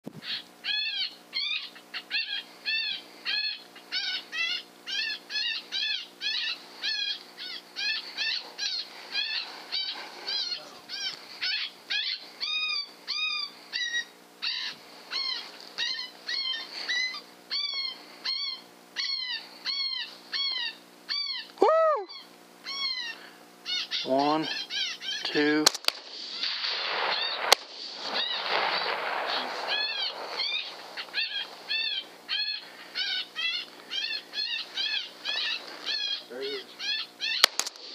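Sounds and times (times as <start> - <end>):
electronic animal distress call: 0.3 - 25.6, 29.2 - 37.5.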